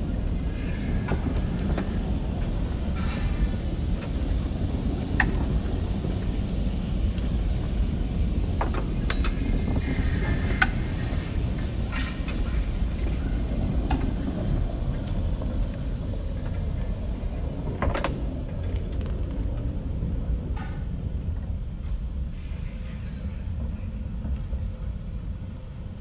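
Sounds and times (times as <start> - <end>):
tram running on track: 0.0 - 26.0.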